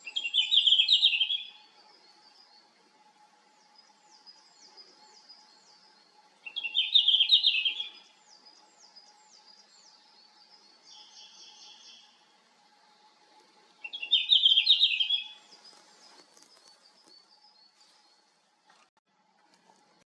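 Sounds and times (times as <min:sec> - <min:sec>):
bird warbling song: 0:00.0 - 0:02.8, 0:03.4 - 0:12.2, 0:13.7 - 0:18.3.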